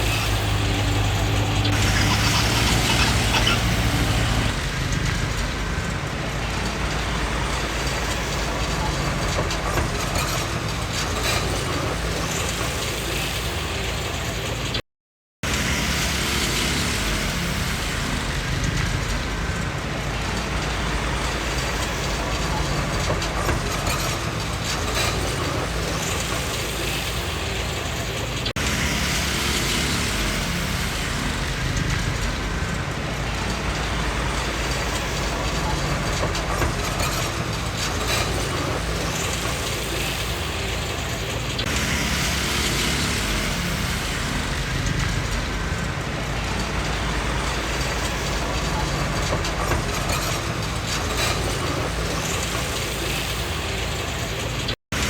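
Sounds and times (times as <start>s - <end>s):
bulldozer diesel engine running: 0.0s - 14.7s, 15.4s - 55.0s
steel tracks rattling and clanking: 0.0s - 14.8s, 15.5s - 55.0s.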